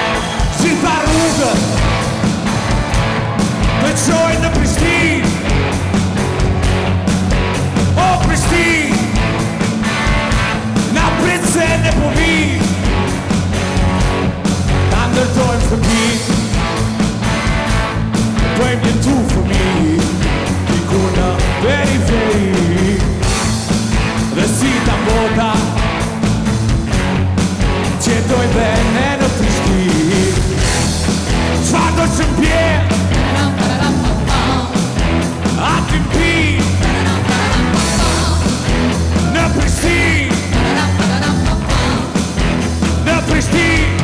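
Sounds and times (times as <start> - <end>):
drums keeping a beat: 0.0 - 44.0
live rock band playing: 0.0 - 44.0.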